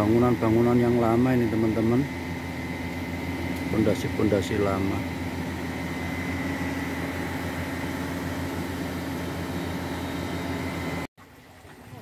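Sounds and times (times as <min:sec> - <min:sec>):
electric water pump humming: 0:00.0 - 0:12.0.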